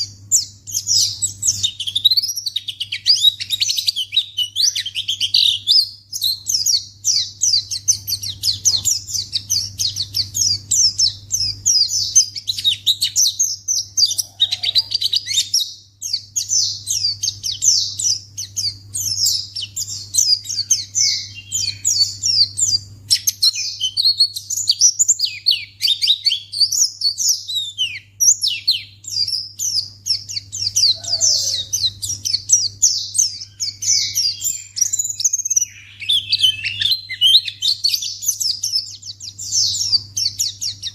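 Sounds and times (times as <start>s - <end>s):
bird twittering chirps: 0.0s - 40.9s
faint low hum: 0.0s - 40.9s.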